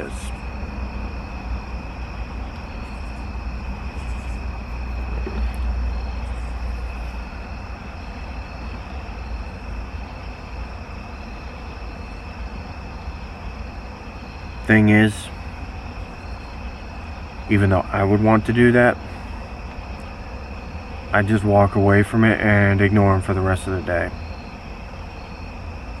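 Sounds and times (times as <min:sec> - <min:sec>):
vehicle road noise: 0:00.0 - 0:26.0.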